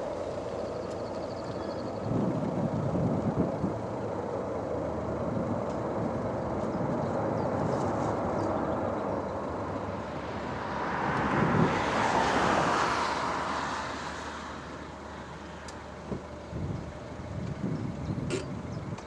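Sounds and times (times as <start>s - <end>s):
aircraft engine rushing overhead: 0.0s - 19.0s.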